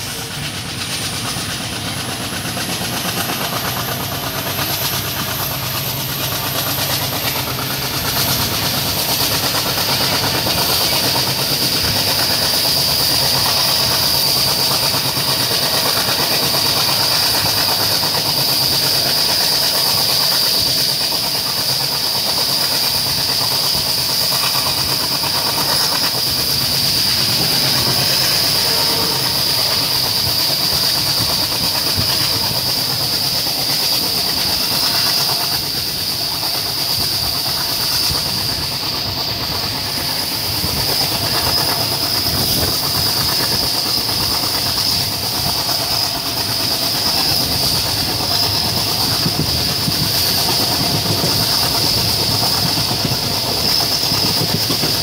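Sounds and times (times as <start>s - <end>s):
high-pitched hiss: 0.0s - 55.0s
train wheels on rail: 0.0s - 55.0s.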